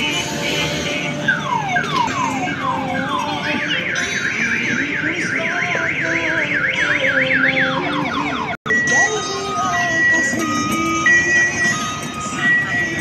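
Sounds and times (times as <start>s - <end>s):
electronic siren: 0.0s - 13.0s.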